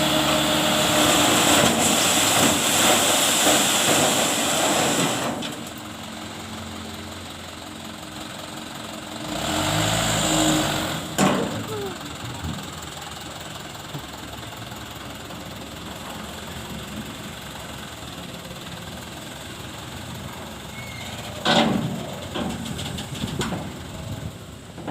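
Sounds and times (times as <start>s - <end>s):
dump truck engine idling: 0.0s - 24.9s.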